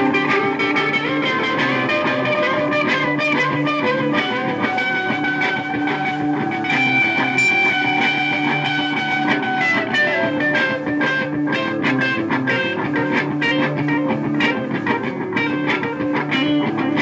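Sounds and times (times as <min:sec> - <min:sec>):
electric guitar through amplifier: 0:00.0 - 0:17.0.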